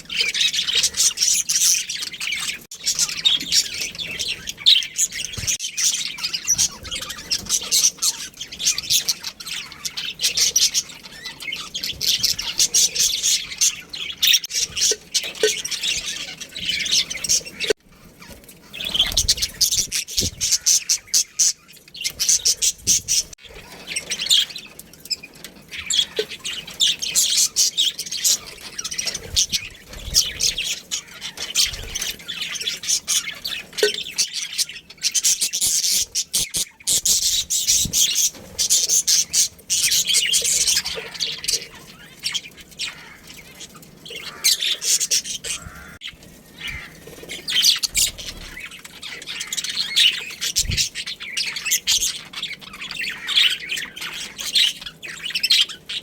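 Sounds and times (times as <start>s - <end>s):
small birds chirping and squawking: 0.0s - 56.0s.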